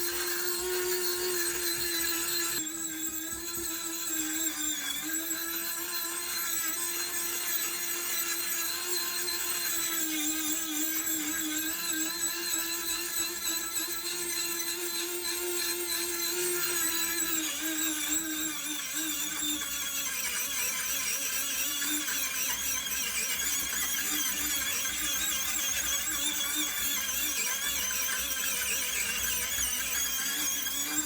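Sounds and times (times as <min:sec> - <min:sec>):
high-speed power tool grinding: 0:00.0 - 0:31.0.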